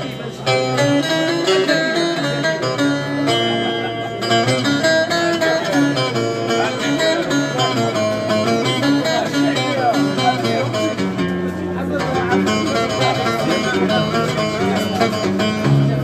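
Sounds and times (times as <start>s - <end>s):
plucked string instruments: 0.0s - 16.0s.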